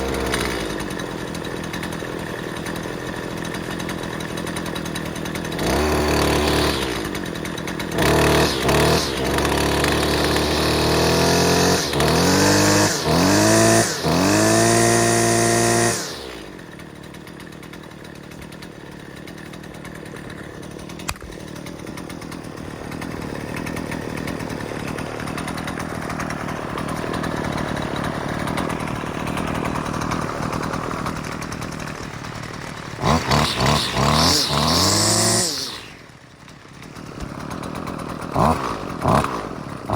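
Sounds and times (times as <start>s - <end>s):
string trimmer revving: 0.0s - 39.9s.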